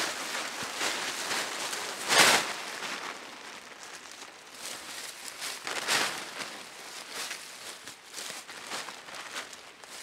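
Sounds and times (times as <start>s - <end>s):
footsteps rustling leaves: 0.0s - 10.0s
plastic sheet rustling: 0.0s - 10.0s.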